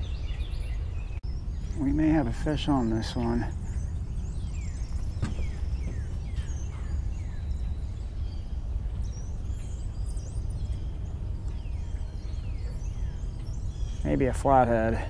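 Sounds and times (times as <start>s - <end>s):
songbirds whistling and chirping: 0.0s - 15.0s
steady low rumble: 0.0s - 15.0s.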